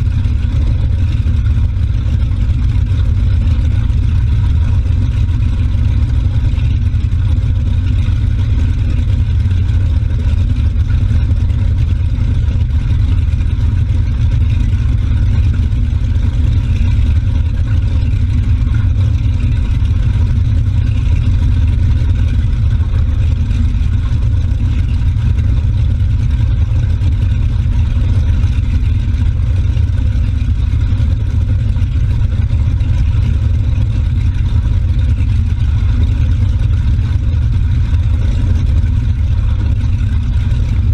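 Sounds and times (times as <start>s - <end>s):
motorboat engine rumble: 0.0s - 40.9s.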